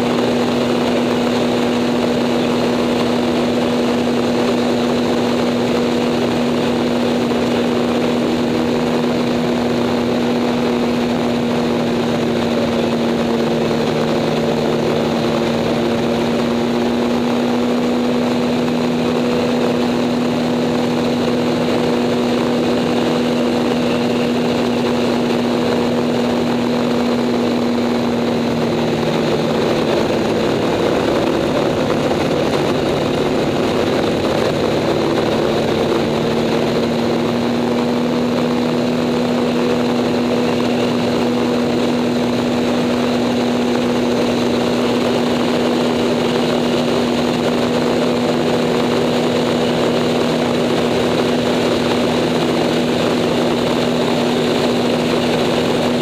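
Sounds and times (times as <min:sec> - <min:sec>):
propeller plane engine drone: 0:00.0 - 0:56.0
rushing wind: 0:00.0 - 0:56.0.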